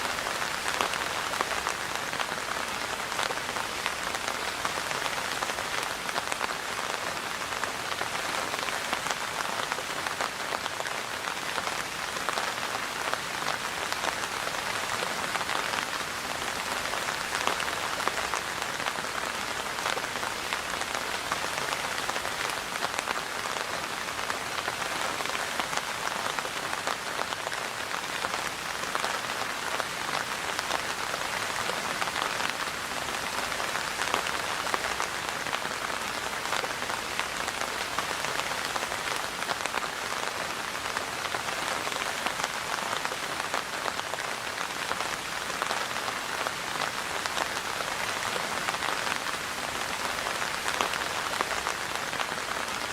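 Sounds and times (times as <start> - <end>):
rain pattering on a surface: 0.0 - 52.9.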